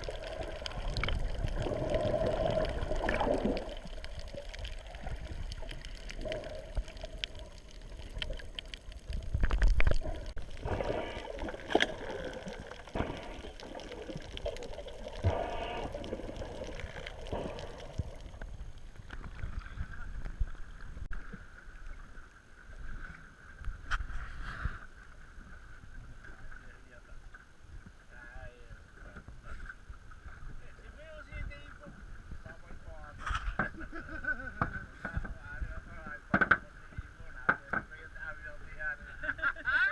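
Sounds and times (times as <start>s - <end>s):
water sloshing and gurgling: 0.0s - 39.8s.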